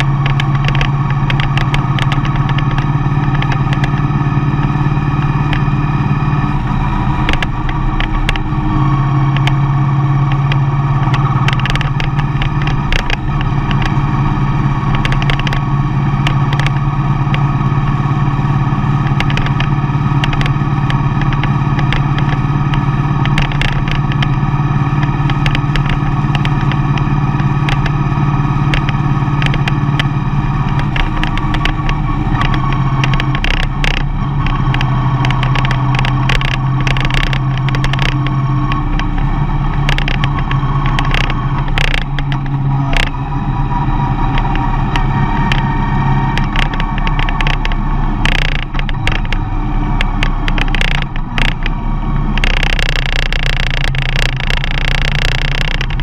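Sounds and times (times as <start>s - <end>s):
light clicks and knocks: 0.0s - 5.8s, 7.2s - 8.5s, 9.3s - 14.2s, 14.8s - 18.0s, 19.0s - 43.2s, 44.2s - 56.0s
van engine and road noise: 0.0s - 56.0s.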